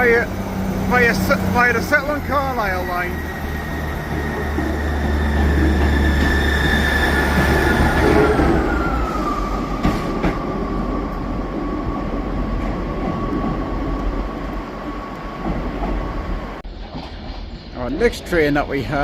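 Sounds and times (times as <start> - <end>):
diesel train whine: 0.0 - 17.1.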